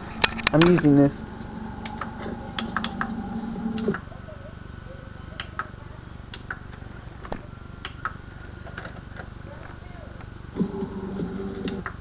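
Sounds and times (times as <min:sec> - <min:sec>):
faint steady background: 0:00.0 - 0:12.0
mechanical hum: 0:00.0 - 0:12.0.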